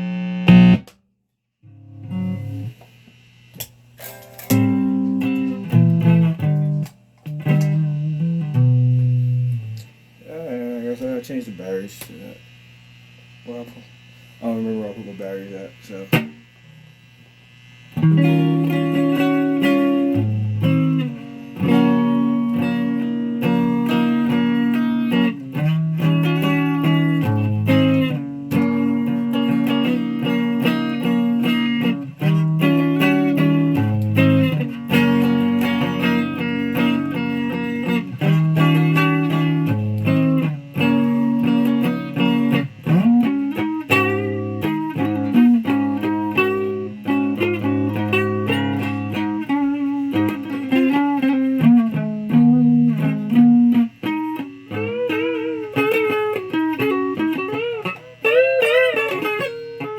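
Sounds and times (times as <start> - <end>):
electric guitar riff: 0.0 - 0.9, 1.6 - 2.9, 3.5 - 12.4, 14.4 - 17.0, 17.6 - 59.9.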